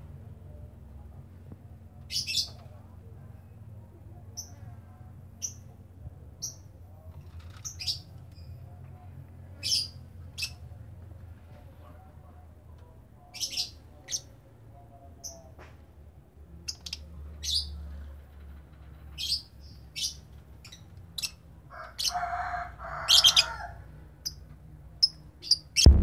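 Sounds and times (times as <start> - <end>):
faint low hum: 0.0 - 22.9, 23.6 - 26.0.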